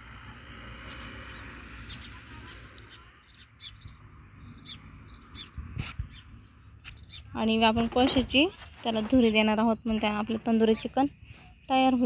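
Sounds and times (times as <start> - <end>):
bird chirps: 0.8 - 12.0.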